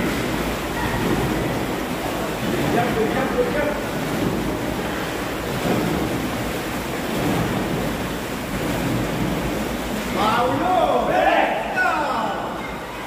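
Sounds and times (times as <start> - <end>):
paddles splashing water: 0.0 - 13.0.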